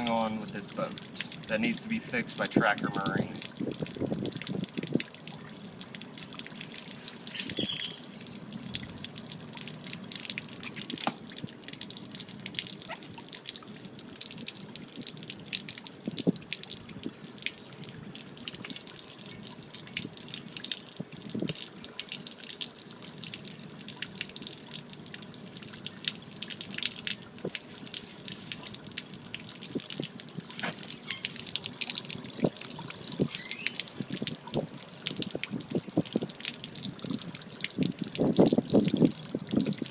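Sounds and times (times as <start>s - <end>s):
water splattering on concrete: 0.0s - 39.9s.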